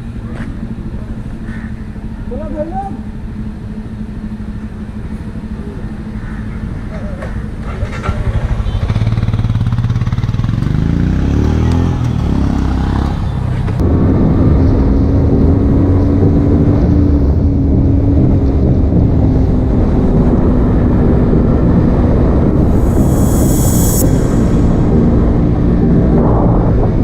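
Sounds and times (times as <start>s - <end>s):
motorcycle engine accelerating: 0.6s - 27.0s.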